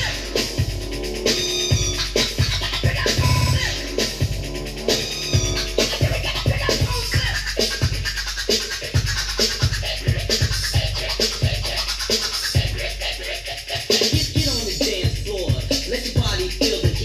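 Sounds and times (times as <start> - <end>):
hip hop drum beat and bass: 0.0 - 17.0
turntable scratching: 0.0 - 17.0.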